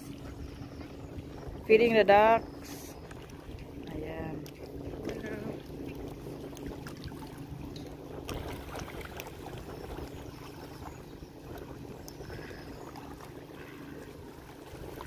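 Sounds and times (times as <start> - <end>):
lake water lapping: 0.0 - 15.0
steady low rumble: 0.0 - 15.0.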